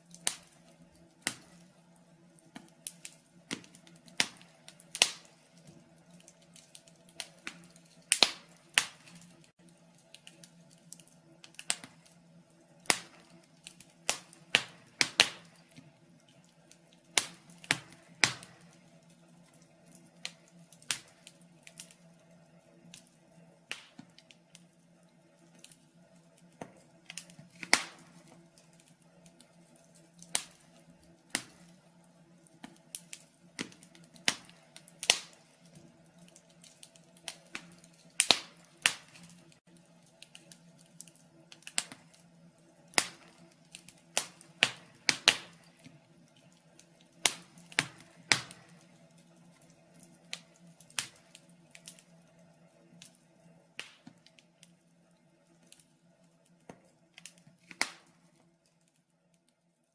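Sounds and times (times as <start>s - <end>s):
wood fire crackling and popping: 0.0s - 59.7s
faint steady hum: 0.0s - 59.9s.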